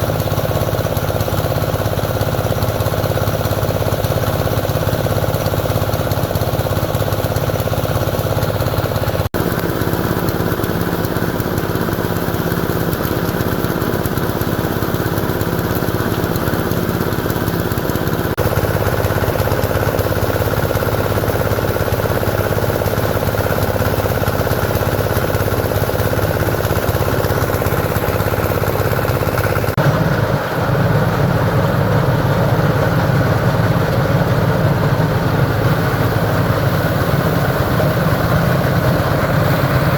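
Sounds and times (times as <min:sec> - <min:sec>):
engine running with low hum: 0:00.0 - 0:39.9.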